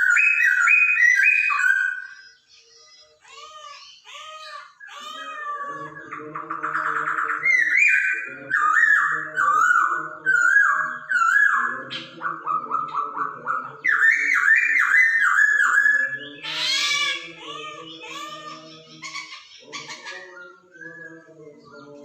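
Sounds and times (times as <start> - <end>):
bird whistling song: 0.0 - 22.0.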